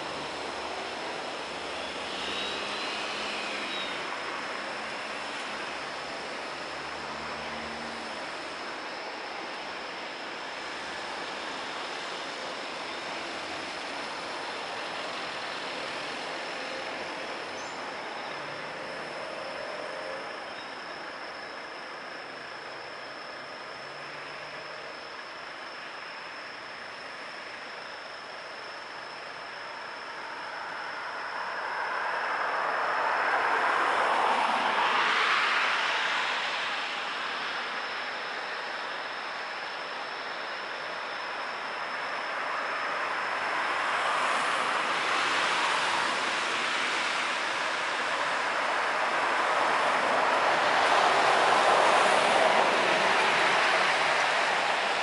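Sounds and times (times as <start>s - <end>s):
distant cars hissing on wet road: 0.0s - 55.0s.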